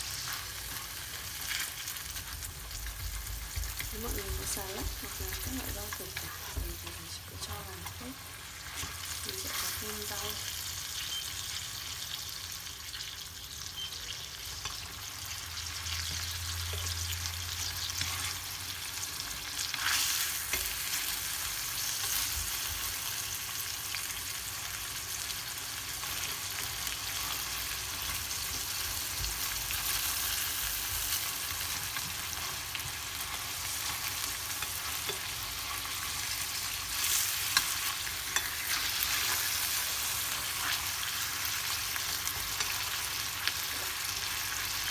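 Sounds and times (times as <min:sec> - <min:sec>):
chicken sizzling in oil: 0:00.0 - 0:44.9.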